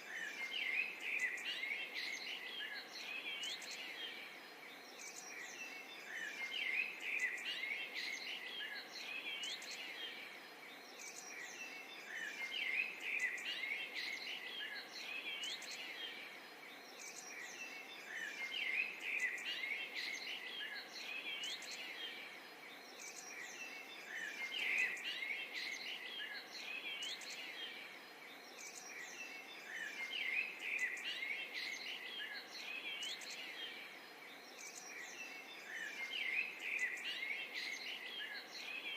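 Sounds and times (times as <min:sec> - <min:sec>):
faint hiss: 0:00.0 - 0:38.9
songbirds chirping: 0:00.0 - 0:38.9.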